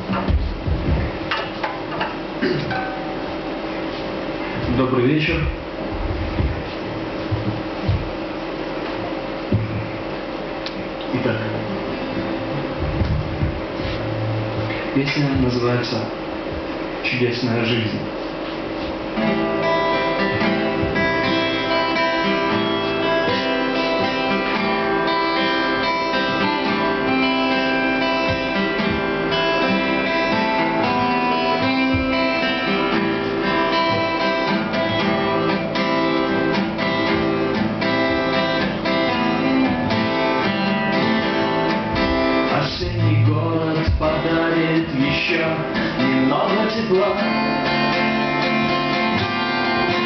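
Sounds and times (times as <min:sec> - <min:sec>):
acoustic guitars playing: 0:00.0 - 0:50.0.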